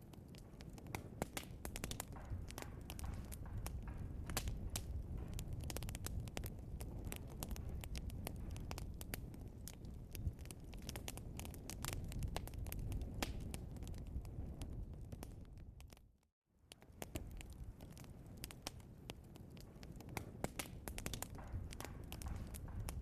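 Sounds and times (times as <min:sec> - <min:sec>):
logs crackling in fireplace: 0:00.0 - 0:23.0
low rumble of fire: 0:00.0 - 0:23.0.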